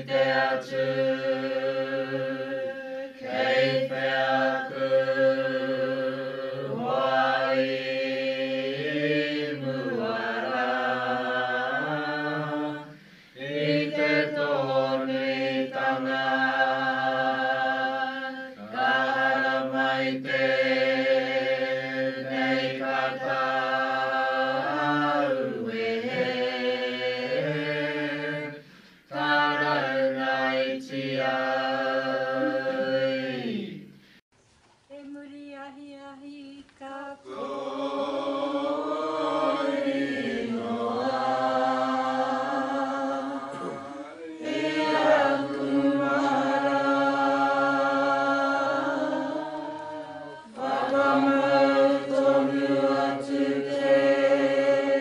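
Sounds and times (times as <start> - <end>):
voices chanting: 0.0 - 33.9, 37.2 - 55.0.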